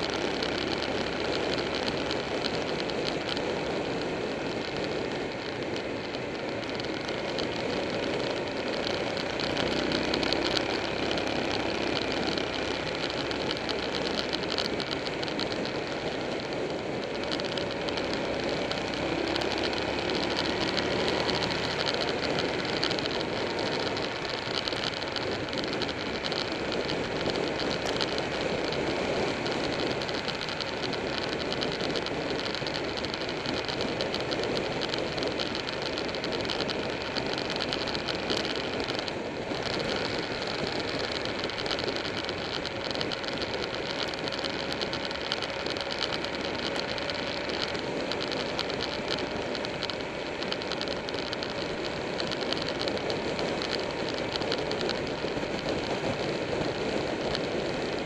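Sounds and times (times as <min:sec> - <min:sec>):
motorcycle engine cruising: 0:00.0 - 0:58.0
road noise: 0:00.0 - 0:58.0.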